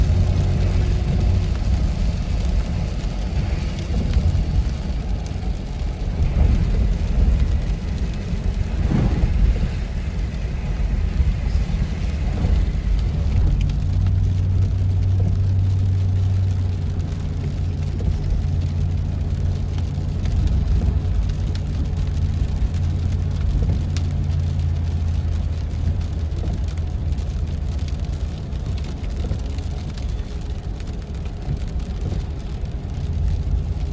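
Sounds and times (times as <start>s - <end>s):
car driving on wet road: 0.0s - 33.9s
rain falling: 0.0s - 33.9s.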